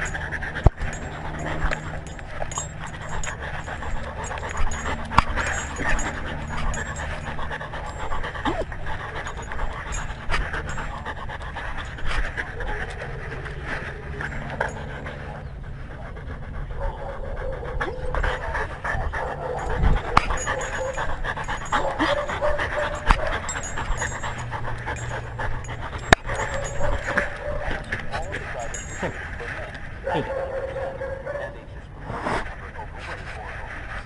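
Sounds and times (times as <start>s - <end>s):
dog panting: 0.0s - 34.0s.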